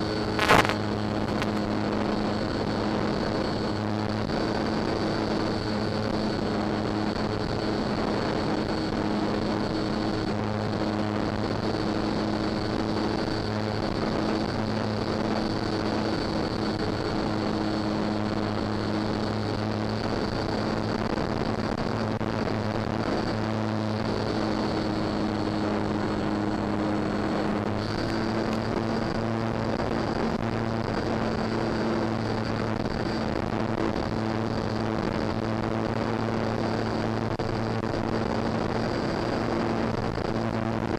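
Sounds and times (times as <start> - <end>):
wind noise: 0.0 - 40.9.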